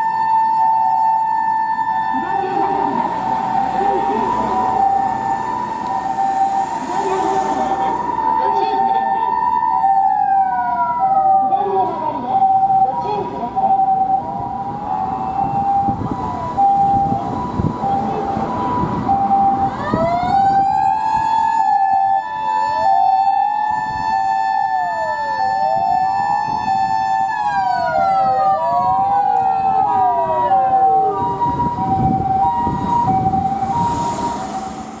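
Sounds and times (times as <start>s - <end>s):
engine and road noise: 0.0s - 35.0s
two-tone ambulance siren: 0.0s - 35.0s
wailing siren: 0.0s - 35.0s.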